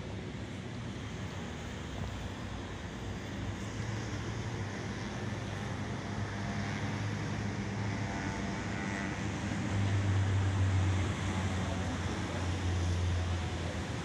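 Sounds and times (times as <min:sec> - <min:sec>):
model plane motor drone: 0:01.0 - 0:14.0.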